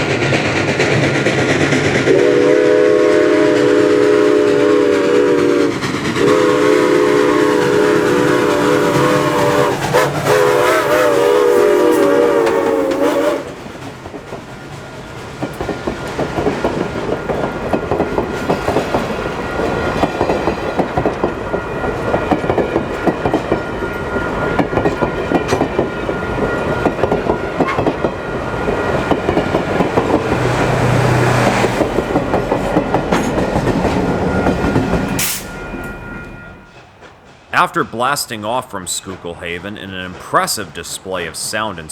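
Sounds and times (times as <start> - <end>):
steam locomotive exhaust beats: 0.0 - 41.9
train clattering: 0.0 - 41.9.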